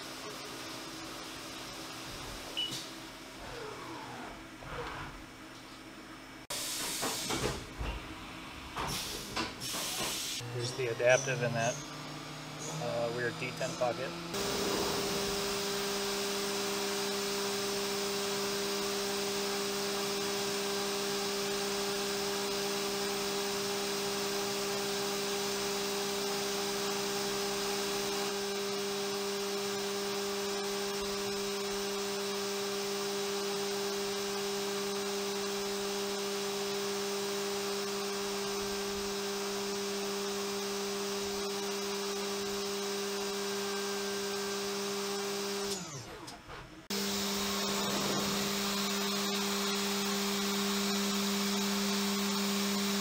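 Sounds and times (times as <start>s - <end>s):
milling machine spindle humming: 10.4s - 53.0s.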